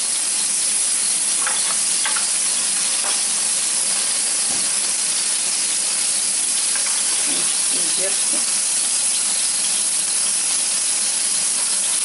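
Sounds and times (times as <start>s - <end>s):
food sizzling on electric grill: 0.0s - 12.0s.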